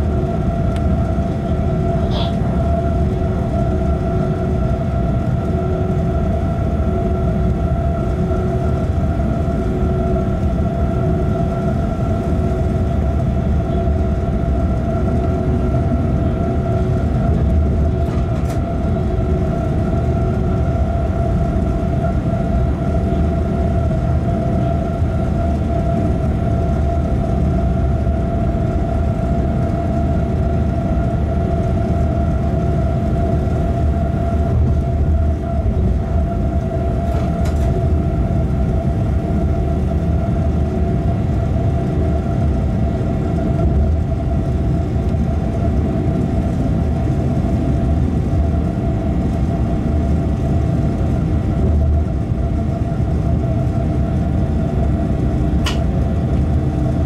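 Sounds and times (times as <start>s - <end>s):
rumble of train wheels: 0.0s - 57.0s
steady equipment hum: 0.0s - 57.0s.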